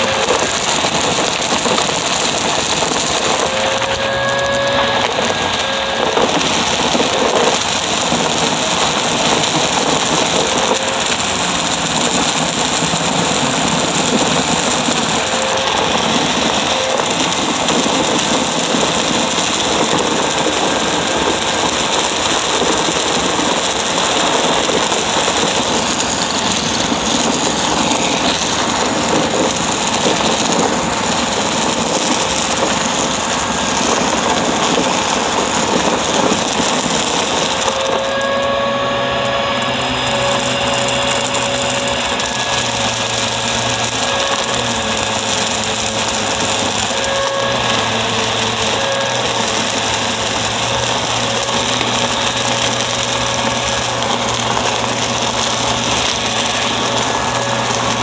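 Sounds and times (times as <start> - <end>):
debris crackling in vacuum: 0.0 - 58.0
vacuum cleaner motor drone: 0.0 - 58.0.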